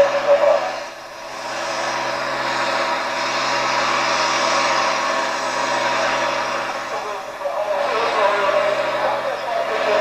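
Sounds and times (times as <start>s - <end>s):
tractor engine running under load: 0.0s - 10.0s.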